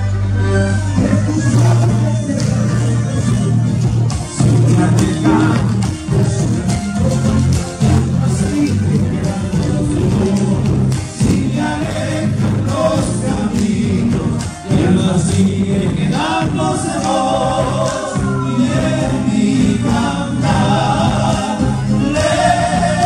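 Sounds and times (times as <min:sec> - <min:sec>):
bass guitar: 0:00.0 - 0:23.0
strummed acoustic guitars: 0:01.0 - 0:23.0
voices singing together: 0:04.4 - 0:23.0.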